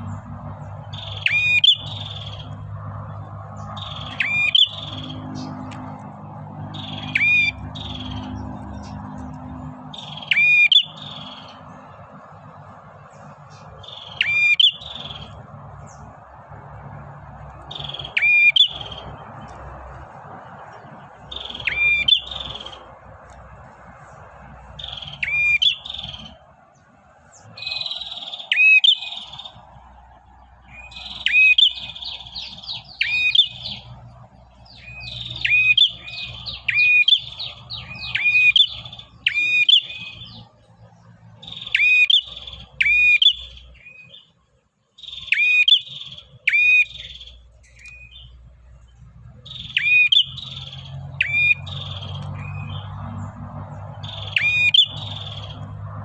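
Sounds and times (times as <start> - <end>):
bird chirping rapidly: 0.0 - 26.6, 27.2 - 44.3, 45.0 - 55.9.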